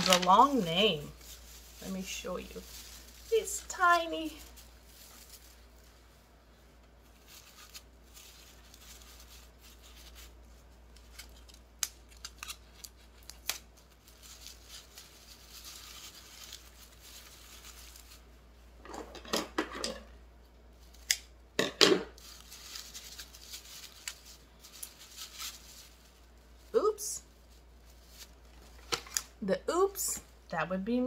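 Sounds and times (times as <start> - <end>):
paper wrapping rustling: 0.0 - 6.2, 6.8 - 18.4, 22.1 - 29.4.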